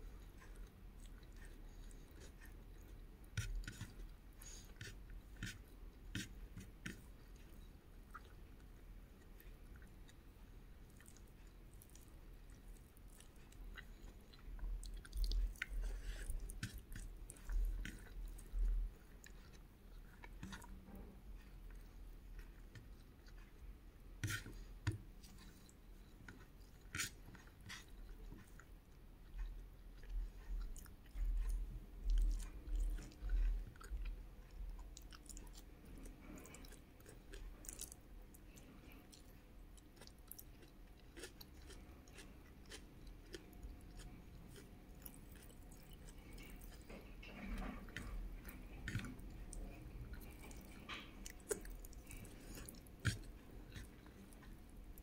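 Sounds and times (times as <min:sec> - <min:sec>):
close chewing with wet mouth sounds: 0:00.0 - 0:55.0.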